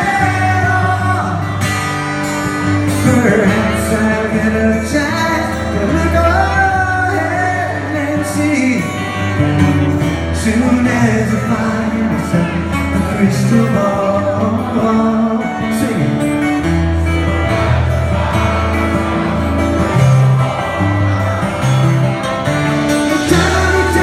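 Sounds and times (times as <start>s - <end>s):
strummed acoustic guitar: 0.0s - 24.0s
person singing: 2.9s - 24.0s.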